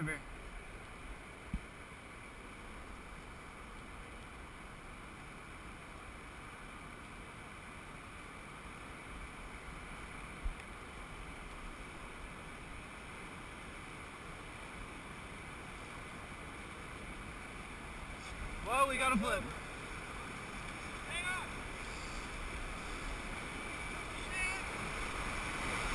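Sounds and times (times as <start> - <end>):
whitewater rushing: 0.0 - 25.9.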